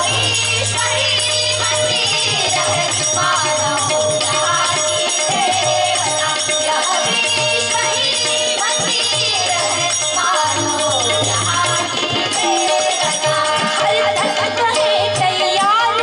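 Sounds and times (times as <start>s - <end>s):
pulsing drum beat: 0.0s - 15.8s
devotional song melody: 0.0s - 16.0s
jingling percussion: 0.0s - 16.0s.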